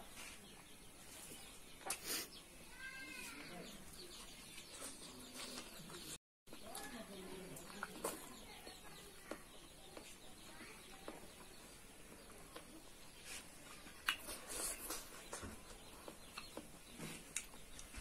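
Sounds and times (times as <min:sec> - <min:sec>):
faint chewing: 0:00.4 - 0:18.0.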